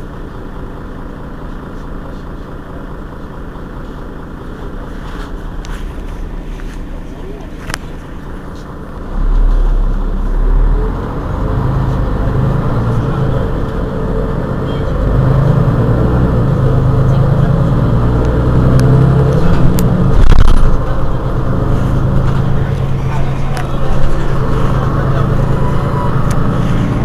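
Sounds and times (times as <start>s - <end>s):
bus diesel engine idling: 0.0s - 27.0s.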